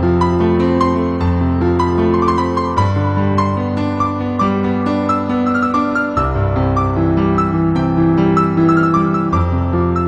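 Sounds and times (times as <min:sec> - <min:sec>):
piano notes: 0:00.0 - 0:10.0.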